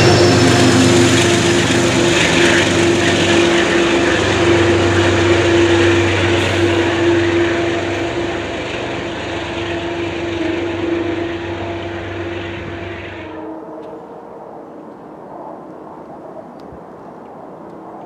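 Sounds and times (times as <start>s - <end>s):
train engine drone: 0.0s - 18.0s.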